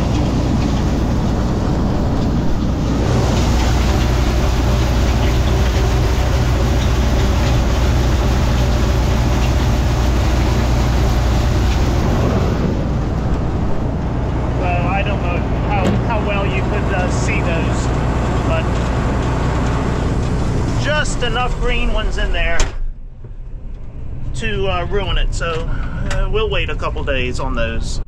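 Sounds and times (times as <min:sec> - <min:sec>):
low diesel engine hum: 0:00.0 - 0:27.8.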